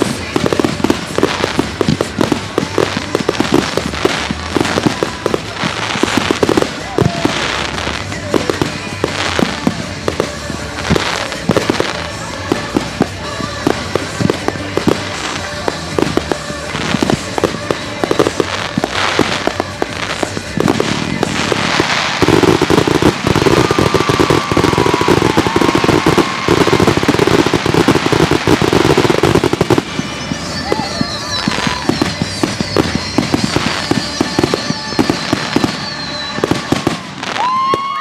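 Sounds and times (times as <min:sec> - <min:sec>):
fireworks bangs: 0:00.0 - 0:38.0
music: 0:00.0 - 0:38.0
rapid fireworks crackling: 0:00.0 - 0:38.0.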